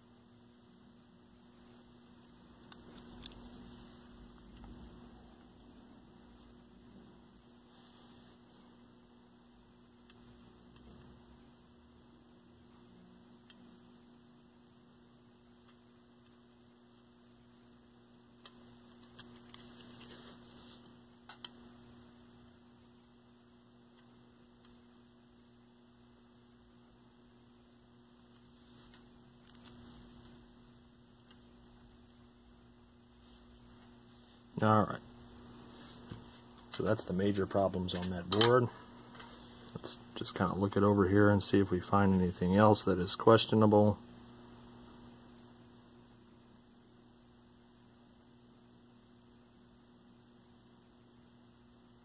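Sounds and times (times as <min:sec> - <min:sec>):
faint electrical mains hum: 0:00.0 - 0:52.0.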